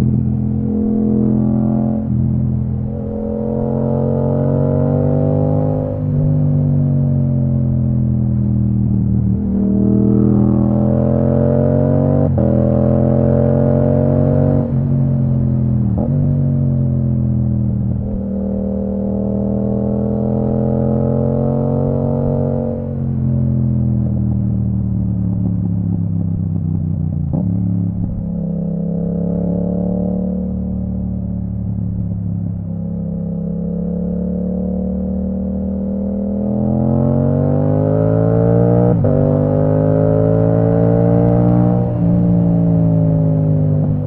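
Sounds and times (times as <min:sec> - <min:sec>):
motorcycle engine revving: 0:00.0 - 0:08.4, 0:09.2 - 0:31.9, 0:32.5 - 0:44.0.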